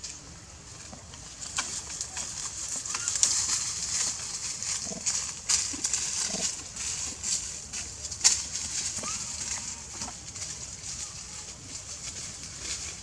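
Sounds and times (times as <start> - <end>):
clicks and rustles: 0.8 - 13.0.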